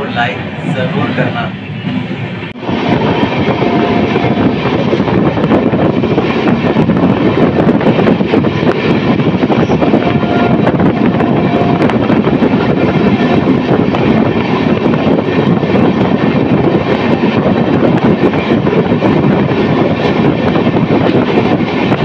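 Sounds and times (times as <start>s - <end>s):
wind rushing: 0.0s - 22.0s.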